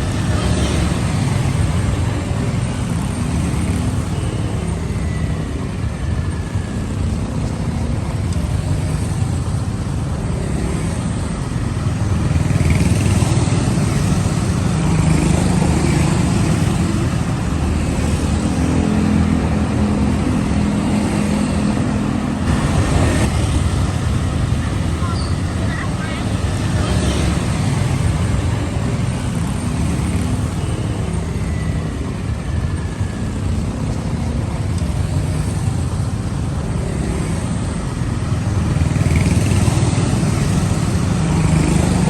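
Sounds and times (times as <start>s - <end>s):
city traffic rumble: 0.0s - 42.0s.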